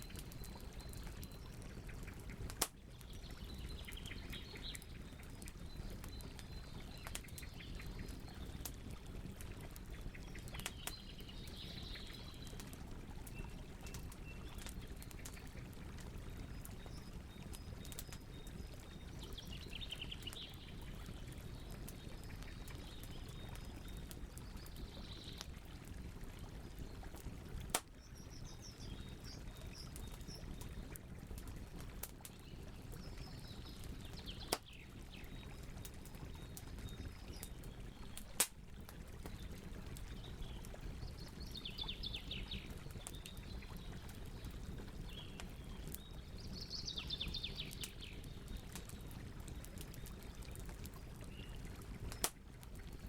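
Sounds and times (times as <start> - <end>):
campfire burning: 0.0 - 53.0.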